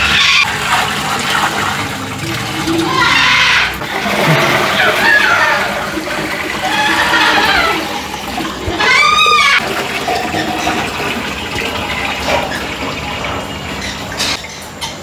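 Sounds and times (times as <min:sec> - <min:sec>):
water pouring into aquarium: 0:00.0 - 0:14.6.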